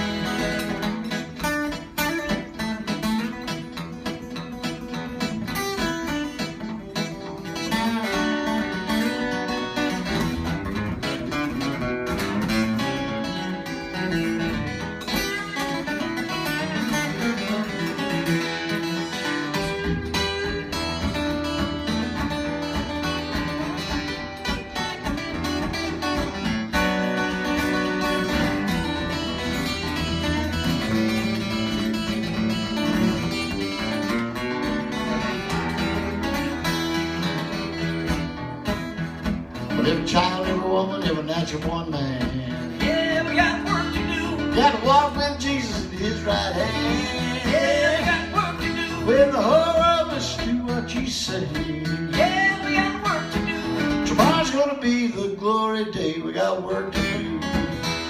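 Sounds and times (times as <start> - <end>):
live band playing instrumental: 0.0 - 55.0, 56.8 - 58.0
electric guitar: 0.0 - 58.0.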